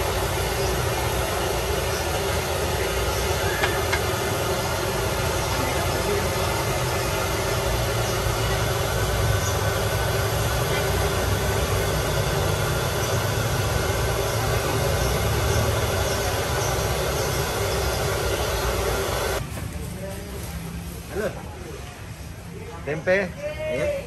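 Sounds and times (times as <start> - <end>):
gas burner rushing: 0.0 - 19.4.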